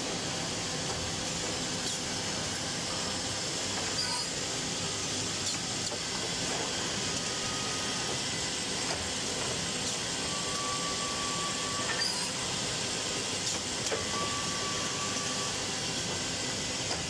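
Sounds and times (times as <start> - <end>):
cutting and boring machine hiss: 0.0 - 17.0.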